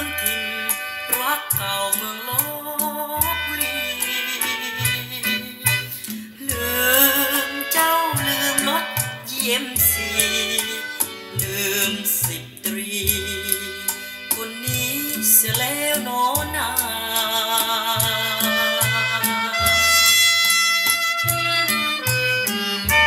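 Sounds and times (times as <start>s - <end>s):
music through speakers: 0.0s - 23.0s.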